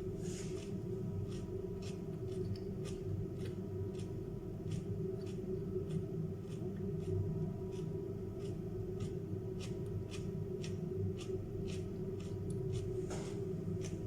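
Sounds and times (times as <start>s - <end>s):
chewing crisp vegetables: 0.6s - 13.0s.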